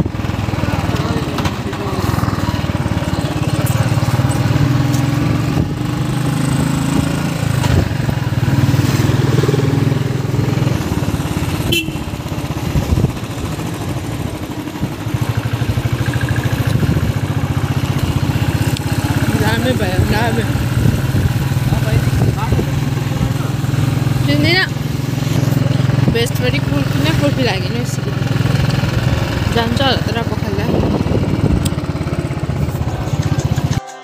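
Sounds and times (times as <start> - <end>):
motorcycle engine running: 0.0 - 33.8.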